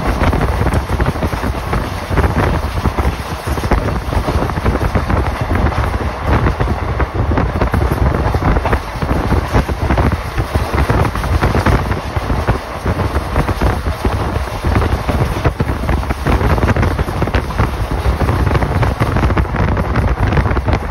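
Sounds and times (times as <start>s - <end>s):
vehicle noise: 0.0s - 20.9s
wind buffeting microphone: 0.0s - 20.9s.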